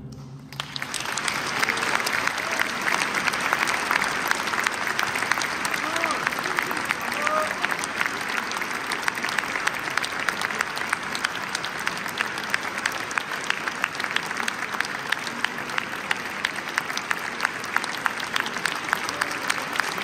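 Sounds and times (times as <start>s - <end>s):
audience applauding: 0.5s - 20.0s.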